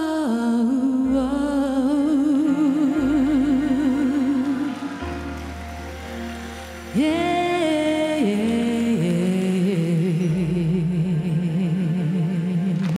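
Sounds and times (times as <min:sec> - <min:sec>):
woman singing with vibrato: 0:00.0 - 0:05.3, 0:06.8 - 0:13.0.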